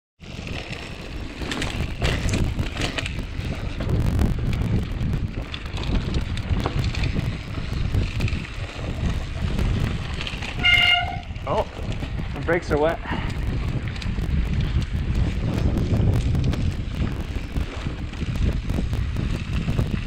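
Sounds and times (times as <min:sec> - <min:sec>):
bike rattling and clicking: 0:00.2 - 0:20.0
wind buffeting microphone: 0:00.2 - 0:20.0.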